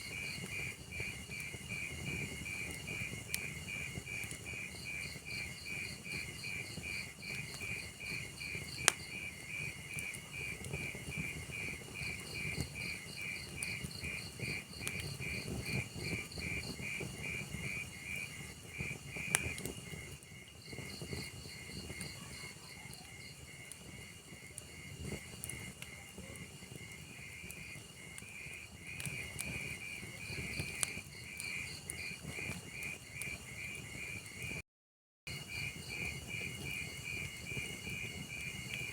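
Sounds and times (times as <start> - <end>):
crickets chirping: 0.0 - 34.5, 35.3 - 38.9
fire popping: 0.0 - 34.6, 35.3 - 38.9
wood fire crackling: 0.0 - 34.6, 35.3 - 38.9.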